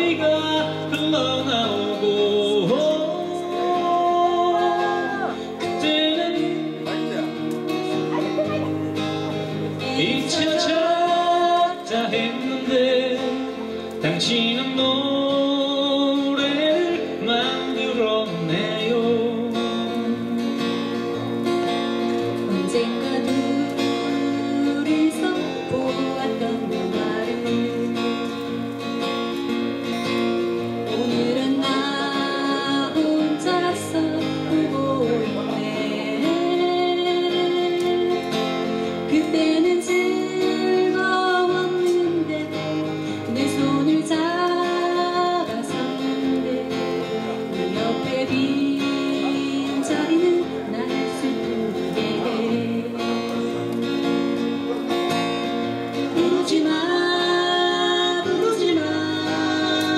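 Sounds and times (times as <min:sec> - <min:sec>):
acoustic guitars strumming: 0:00.0 - 0:59.9
person singing: 0:00.0 - 0:59.9.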